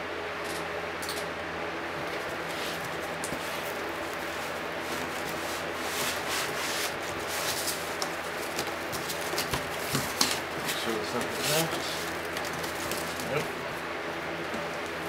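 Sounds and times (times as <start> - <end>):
room fan whooshing: 0.0 - 15.0
cardboard and foam rustling: 2.0 - 15.0.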